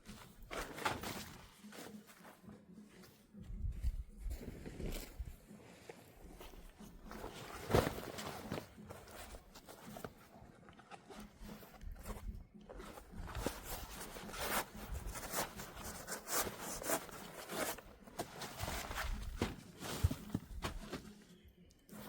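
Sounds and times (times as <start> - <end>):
camping gear rustling and scuffing: 0.0 - 21.3.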